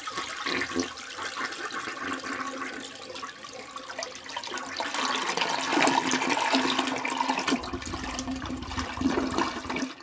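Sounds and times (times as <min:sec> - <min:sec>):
toilet flushing: 0:00.0 - 0:10.0.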